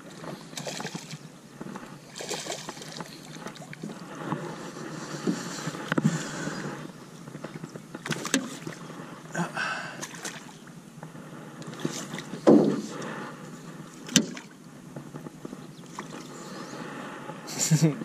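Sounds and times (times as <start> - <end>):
water and wind noise: 0.0 - 18.0.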